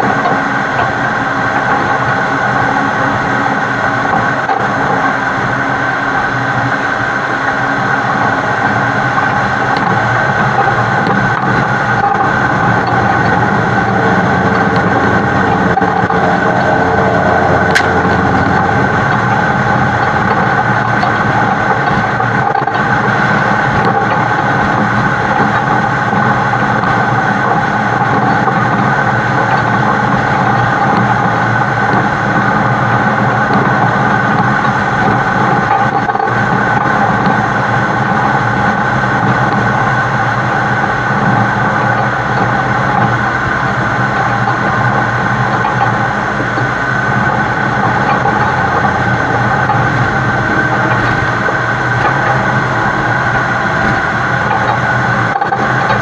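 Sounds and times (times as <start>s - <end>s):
diesel engine drone: 0.0s - 56.0s
road noise: 0.0s - 56.0s.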